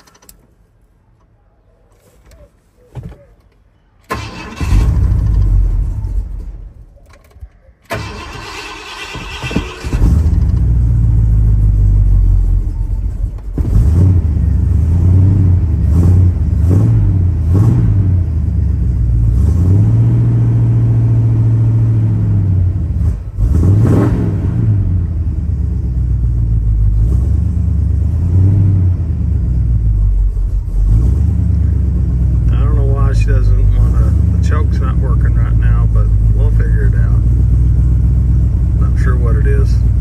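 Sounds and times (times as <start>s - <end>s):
truck engine revving: 7.9s - 40.0s.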